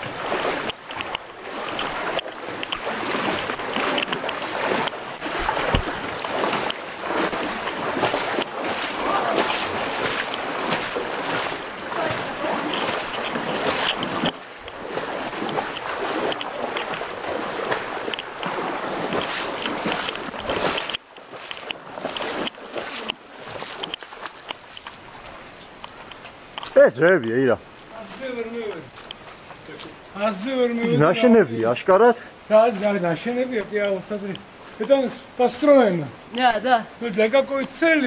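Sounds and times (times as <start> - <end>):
stream rushing: 0.0 - 38.0
water splashing from wading: 0.0 - 38.0.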